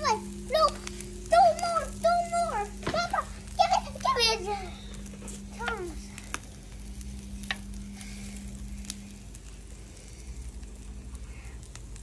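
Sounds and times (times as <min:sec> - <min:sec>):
low steady hum: 0:00.0 - 0:12.0
meat sizzling on a grill: 0:00.0 - 0:12.0.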